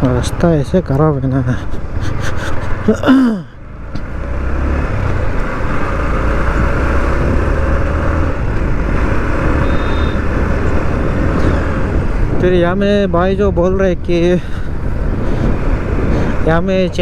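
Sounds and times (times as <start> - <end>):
road rumble: 0.0 - 17.0.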